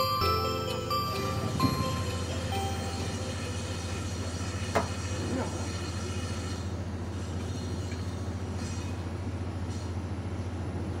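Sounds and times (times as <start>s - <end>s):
engine humming: 0.0s - 9.7s.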